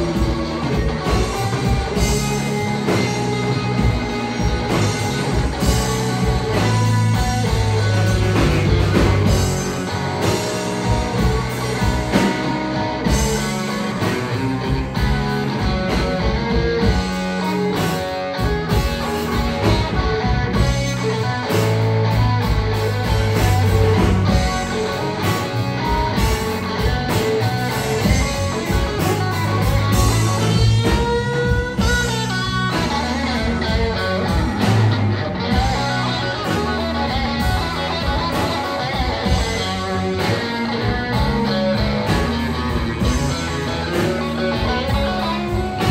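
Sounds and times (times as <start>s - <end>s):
blues band playing: 0.0s - 45.9s
electric guitar lead: 0.0s - 45.9s.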